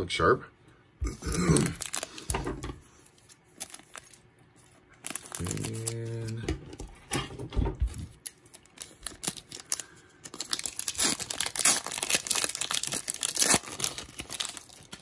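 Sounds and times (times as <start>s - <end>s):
cellophane wrapper crinkling and tearing: 1.2s - 6.4s, 8.1s - 15.0s.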